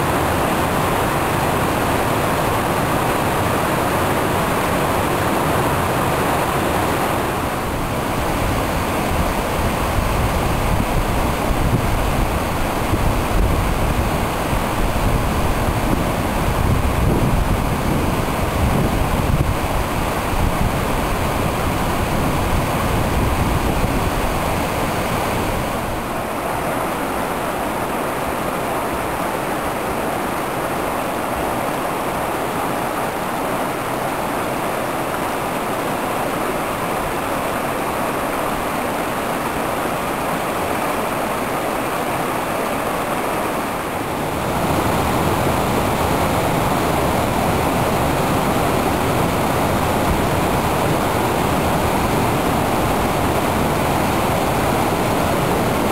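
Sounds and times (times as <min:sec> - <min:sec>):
stream flowing: 0:00.0 - 0:55.9.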